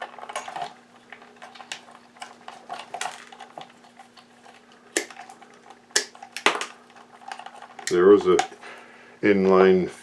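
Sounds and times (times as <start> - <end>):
wire strippers clicking and scraping: 0.0 - 8.6.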